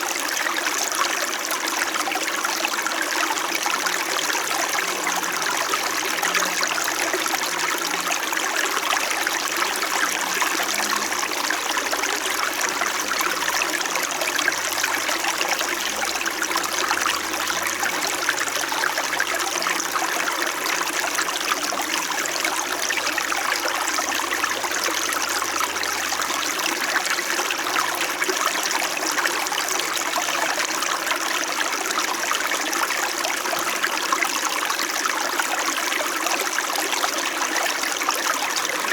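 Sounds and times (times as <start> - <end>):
mountain stream flowing: 0.0 - 38.9.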